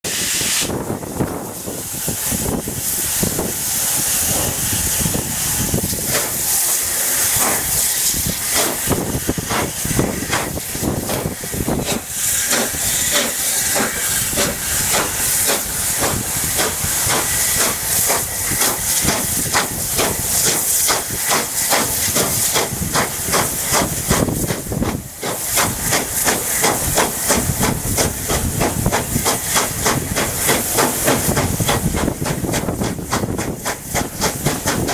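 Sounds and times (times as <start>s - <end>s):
rush of steam and air: 0.0s - 34.9s
steam locomotive exhaust beats: 0.0s - 34.9s.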